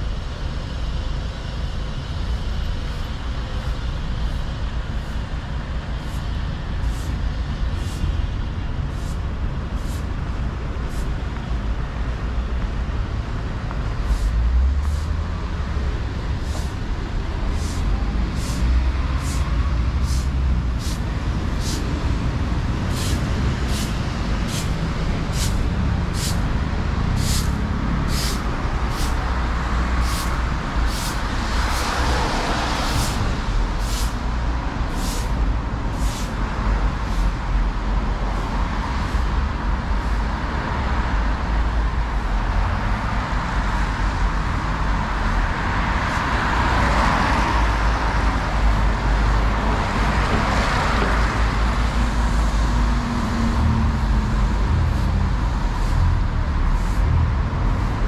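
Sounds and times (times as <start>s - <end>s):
city road traffic: 0.0s - 58.0s.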